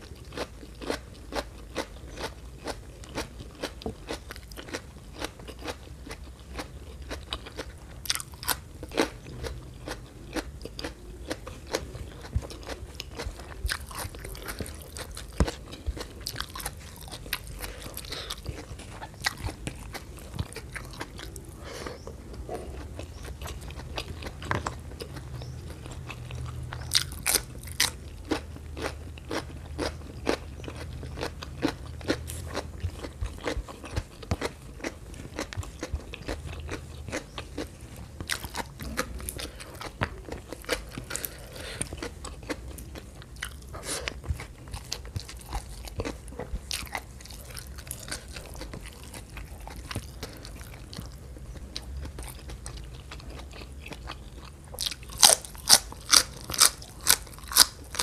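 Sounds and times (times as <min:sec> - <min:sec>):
chewing with wet mouth clicks: 0:00.0 - 0:58.0.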